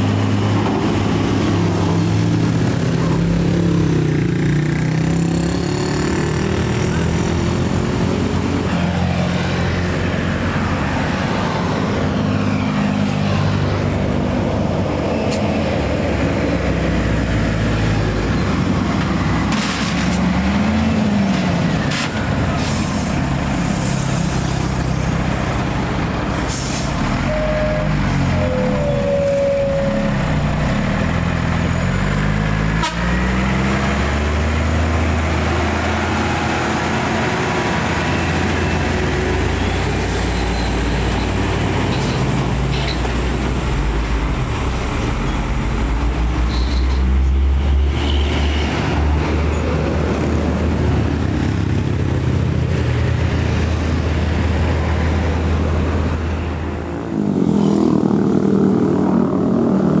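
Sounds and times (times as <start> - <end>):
diesel truck engine drone: 0.0 - 60.0.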